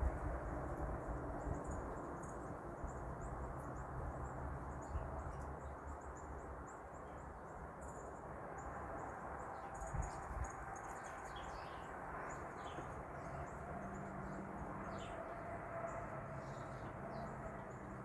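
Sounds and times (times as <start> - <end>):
songbirds chipping and tweeting: 0.0 - 18.0.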